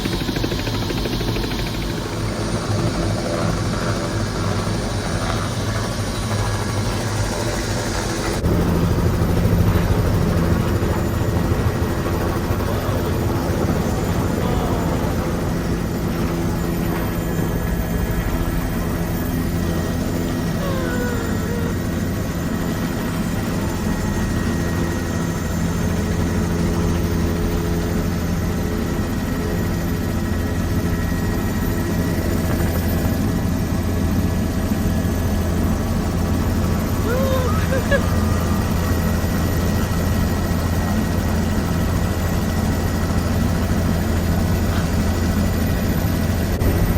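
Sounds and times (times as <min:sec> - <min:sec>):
helicopter drone: 0:00.0 - 0:46.9.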